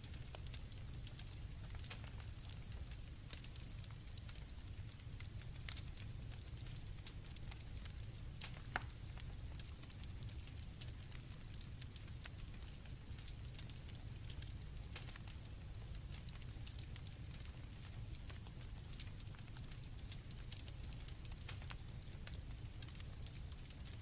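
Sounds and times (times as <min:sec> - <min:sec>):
campfire crackling and popping: 0:00.0 - 0:24.0
crickets chirping: 0:00.0 - 0:24.0.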